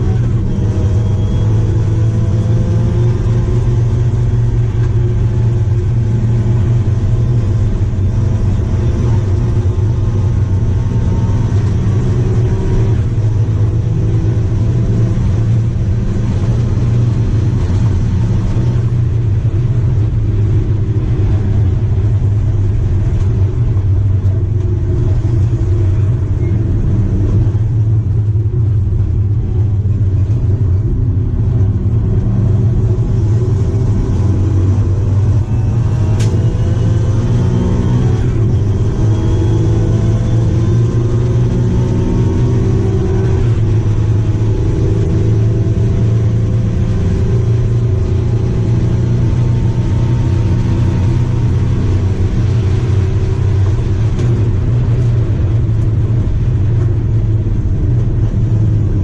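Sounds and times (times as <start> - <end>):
engine running at high revs: 0.0 - 59.0.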